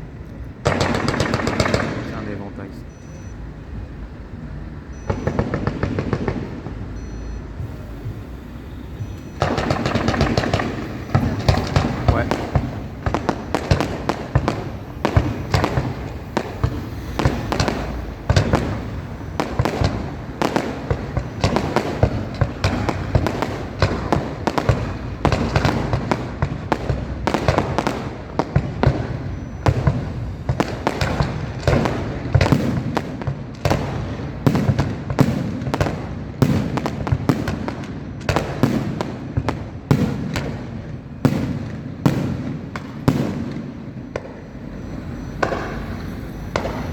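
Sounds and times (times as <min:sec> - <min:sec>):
fireworks bangs and crackles: 0:00.0 - 0:03.3, 0:04.9 - 0:46.9.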